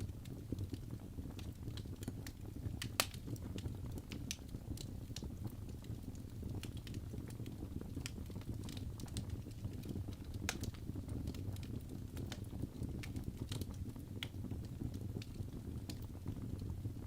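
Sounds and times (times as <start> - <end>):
low rumble of burning: 0.0 - 17.0
wood fire crackling: 0.0 - 17.0.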